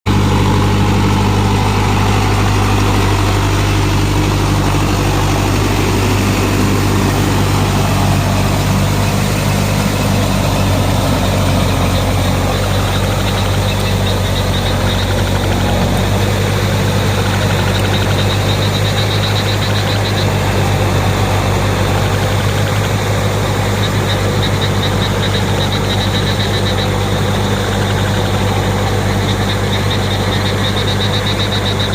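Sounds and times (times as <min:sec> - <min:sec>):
tractor engine running: 0:00.0 - 0:31.9
high pulsing chirp: 0:00.1 - 0:31.9.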